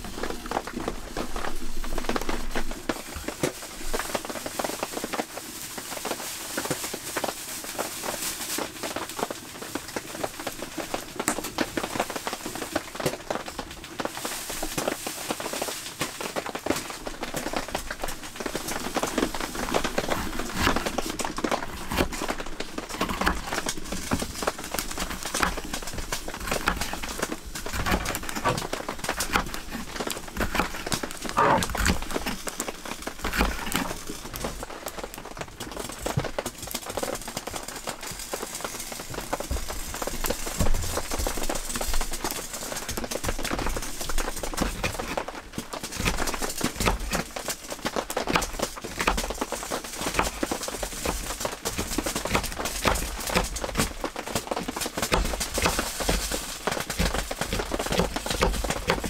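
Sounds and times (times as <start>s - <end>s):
plastic bag rustling: 0.0s - 59.0s.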